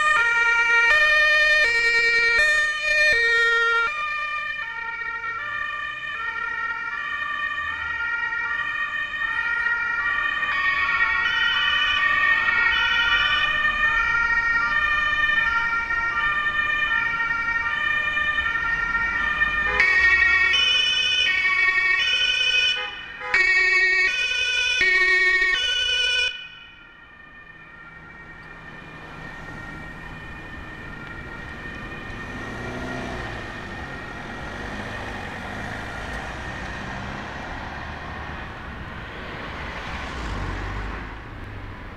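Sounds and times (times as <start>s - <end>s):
street traffic: 0.0s - 41.9s
two-tone emergency sirens: 0.0s - 41.9s
vehicle engines: 0.0s - 41.9s.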